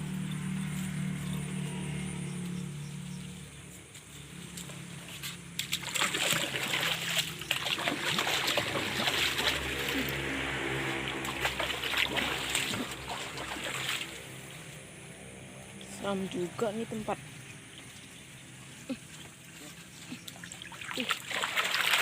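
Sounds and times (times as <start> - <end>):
water splashing and sloshing: 3.7 - 15.1, 15.7 - 22.0.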